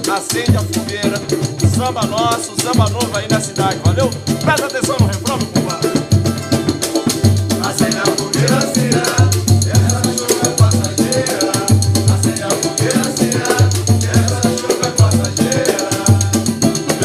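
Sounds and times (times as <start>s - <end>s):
bouncing bass line: 0.0s - 17.0s
group singing: 0.0s - 17.0s
hand percussion and shakers: 0.0s - 17.0s.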